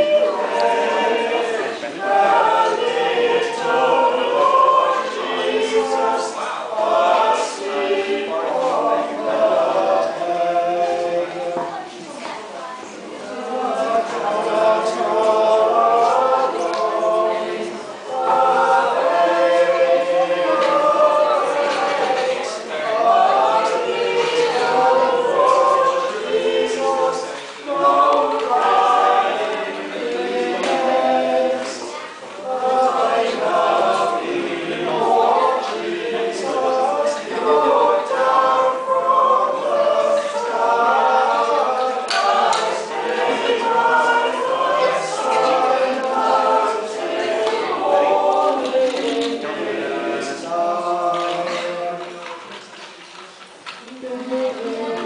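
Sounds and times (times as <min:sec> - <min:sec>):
mixed choir singing a carol: 0:00.0 - 0:55.0.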